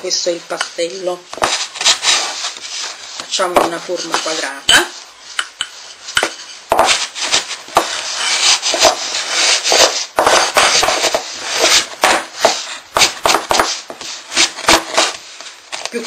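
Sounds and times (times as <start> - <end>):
rolling pin rubbing on dough: 1.0 - 15.9.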